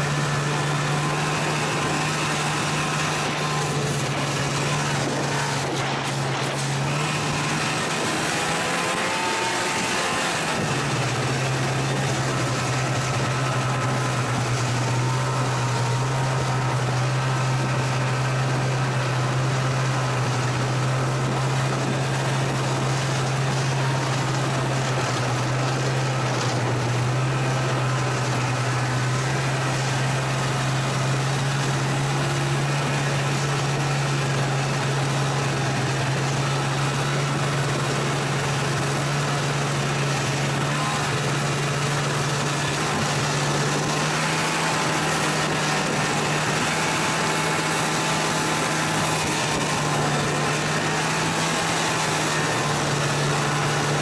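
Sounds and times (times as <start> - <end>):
rushing ride noise: 0.0 - 54.0
snowmobile engine running: 0.0 - 54.0.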